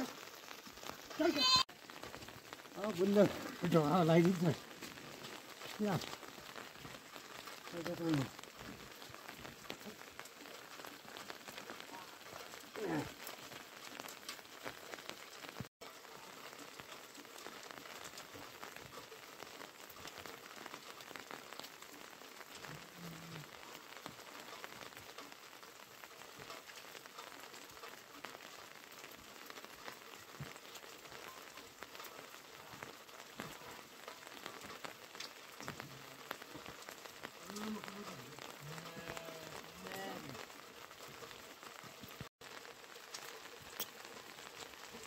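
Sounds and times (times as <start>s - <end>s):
rain pattering: 0.0s - 45.0s.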